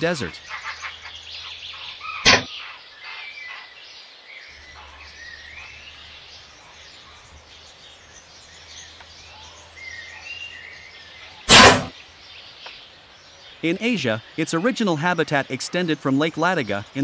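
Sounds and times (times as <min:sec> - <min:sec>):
background hiss: 0:00.0 - 0:17.0
wild birds chirping: 0:00.0 - 0:17.0.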